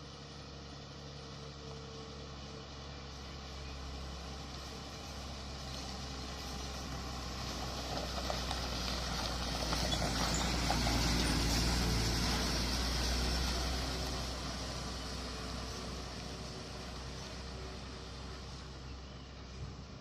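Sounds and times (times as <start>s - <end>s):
heavy truck passing by: 0.0s - 20.0s.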